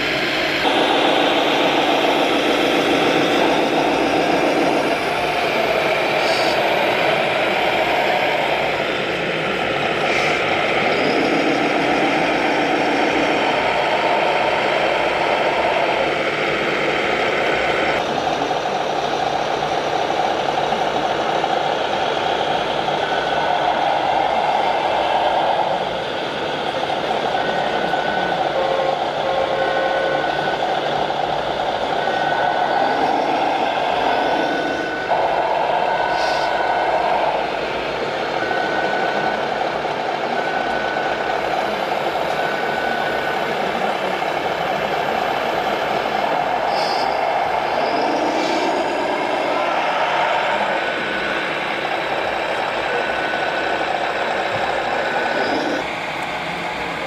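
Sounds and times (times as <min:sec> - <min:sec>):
reversing beeper: 0:00.0 - 0:18.0, 0:22.4 - 0:55.8
diesel truck engine sounds: 0:00.0 - 0:57.0.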